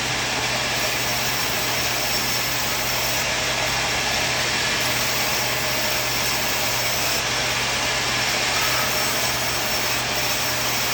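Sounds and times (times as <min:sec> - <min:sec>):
sawmill machine humming and whining: 0:00.0 - 0:10.9.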